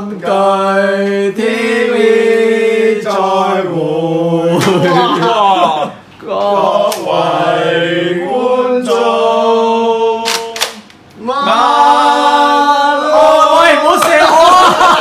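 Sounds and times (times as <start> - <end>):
voices singing long notes: 0.0 - 15.0.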